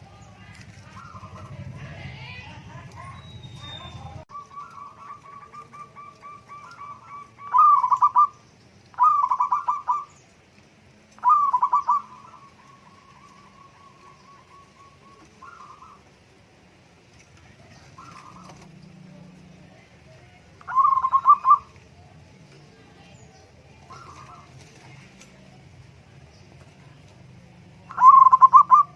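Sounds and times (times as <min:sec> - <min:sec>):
dove cooing: 0:00.5 - 0:10.3, 0:11.2 - 0:16.5, 0:17.2 - 0:25.8, 0:26.6 - 0:28.9.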